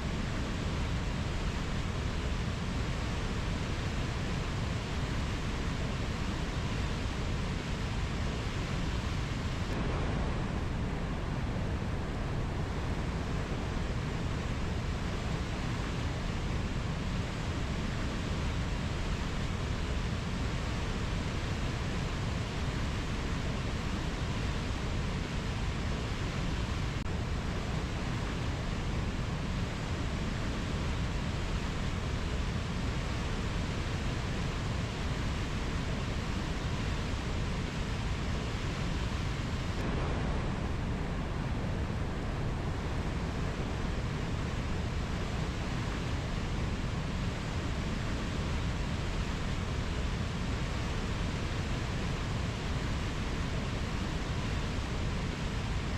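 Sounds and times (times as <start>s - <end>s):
rushing rainforest ambience: 0.0s - 55.9s.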